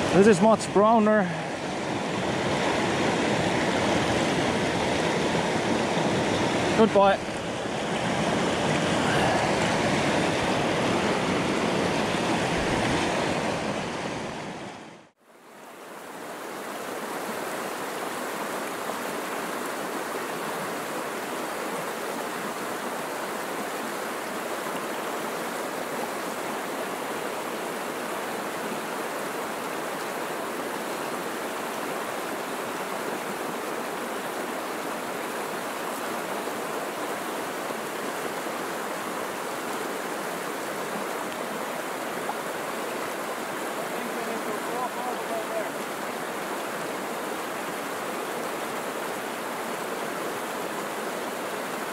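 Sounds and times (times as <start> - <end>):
river rapids rushing over rocks: 0.0 - 14.7, 16.0 - 51.9
steady river rush: 0.0 - 51.9.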